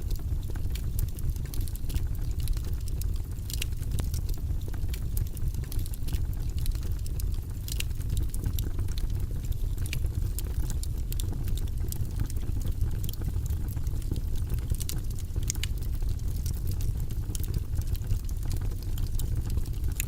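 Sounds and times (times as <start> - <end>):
low fire rumble: 0.0 - 20.0
wood fire crackling and popping: 0.0 - 20.0.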